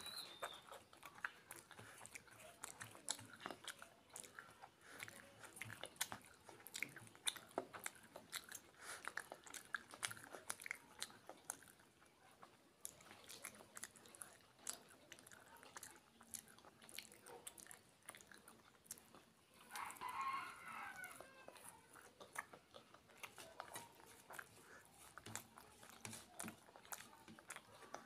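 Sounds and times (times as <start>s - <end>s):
mouth chewing and smacking: 0.0s - 28.0s
squeaky chewing sound: 0.0s - 28.0s.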